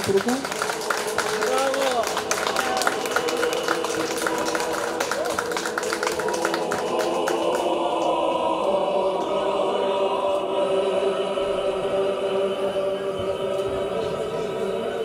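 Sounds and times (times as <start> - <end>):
choir singing long notes: 0.4 - 15.0.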